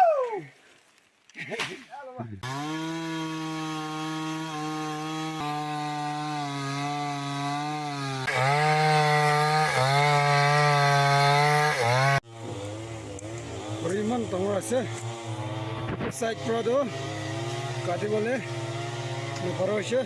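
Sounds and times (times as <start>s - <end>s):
chainsaw cutting wood: 2.4s - 20.0s.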